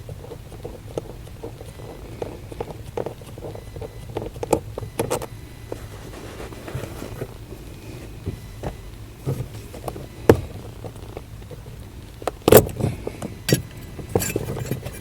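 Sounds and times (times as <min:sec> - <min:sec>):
steady low hum: 0:00.0 - 0:15.0
steering clunks and knocks: 0:00.0 - 0:15.0.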